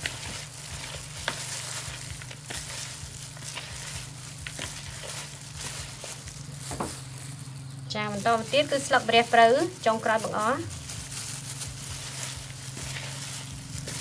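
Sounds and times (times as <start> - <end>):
hands mixing wet fish: 0.0 - 14.0.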